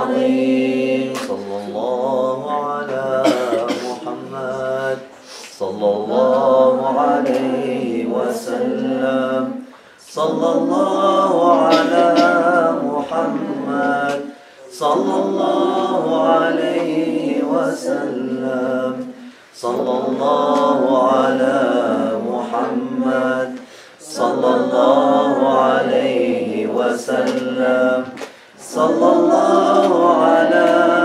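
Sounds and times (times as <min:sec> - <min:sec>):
group chanting: 0:00.0 - 0:31.0.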